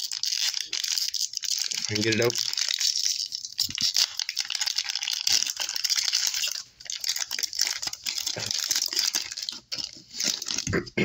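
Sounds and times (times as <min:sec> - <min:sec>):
cards rustling: 0:00.0 - 0:10.7
foil wrapper crinkling and tearing: 0:00.0 - 0:10.8.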